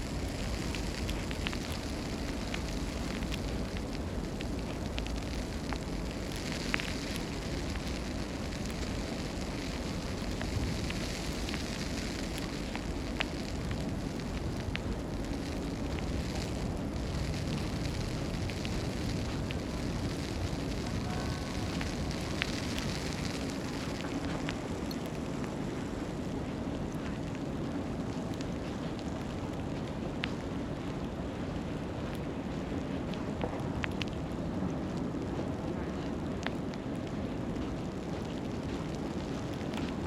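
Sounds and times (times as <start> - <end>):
faint ticks and clicks: 0.0 - 40.0
low rumble and hiss: 0.0 - 40.0.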